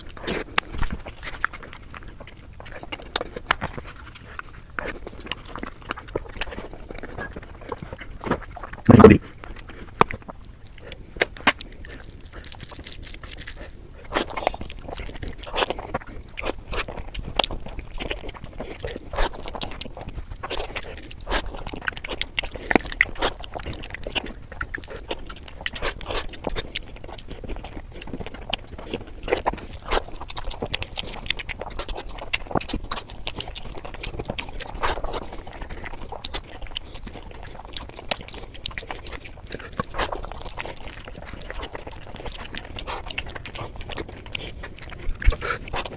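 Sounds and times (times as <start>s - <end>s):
person chewing and biting food: 0.0s - 45.9s.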